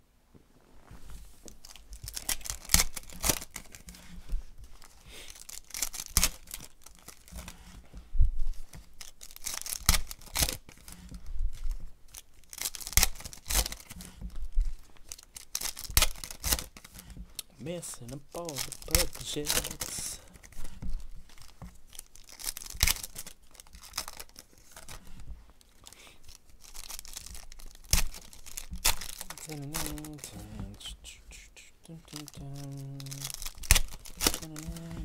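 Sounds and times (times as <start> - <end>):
foil wrapper tearing and crinkling: 1.5 - 7.6, 8.5 - 30.7, 31.9 - 35.0.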